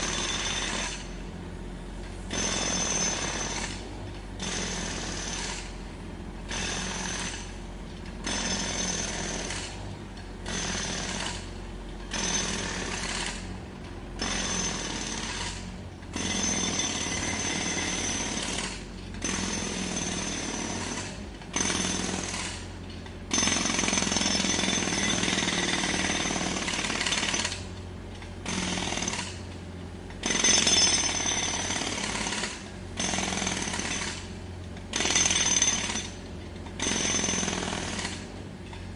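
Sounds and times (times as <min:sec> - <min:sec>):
jackhammer breaking road surface: 0:00.0 - 0:01.3, 0:02.3 - 0:05.8, 0:06.5 - 0:13.6, 0:14.2 - 0:38.9.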